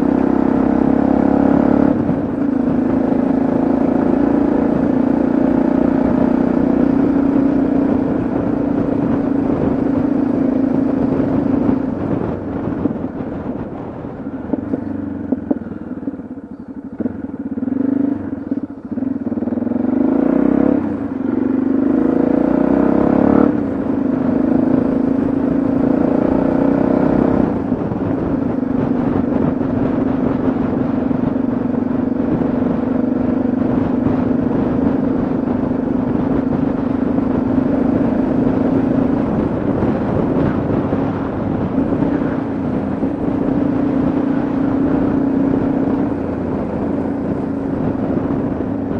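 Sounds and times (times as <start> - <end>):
motorcycle engine shifting gears: 0.0 - 48.9.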